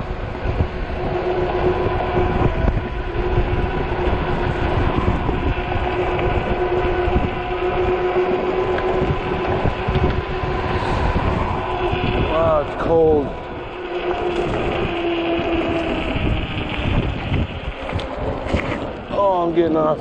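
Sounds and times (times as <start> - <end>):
electric motor whine: 0.0 - 20.0
wind buffeting microphone: 0.0 - 20.0.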